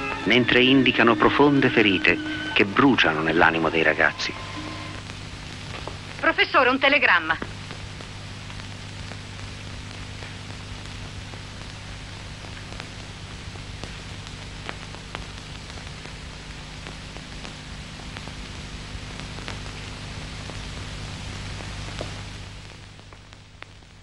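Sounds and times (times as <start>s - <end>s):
film soundtrack hiss and hum: 0.0s - 24.0s.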